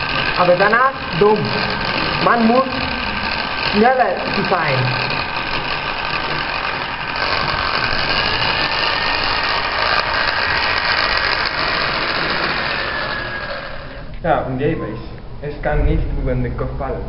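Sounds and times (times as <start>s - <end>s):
electric hand mixer whipping: 0.0s - 14.1s.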